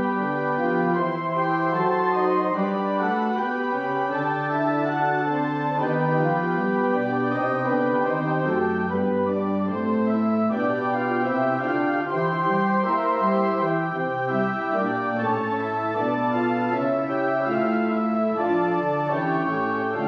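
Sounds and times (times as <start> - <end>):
organ playing chords: 0.0 - 20.0.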